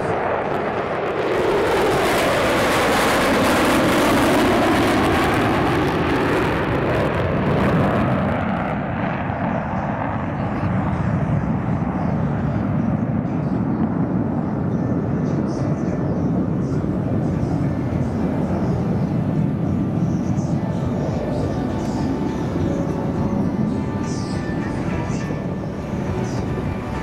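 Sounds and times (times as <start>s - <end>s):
jet roar passing overhead: 0.0s - 27.0s.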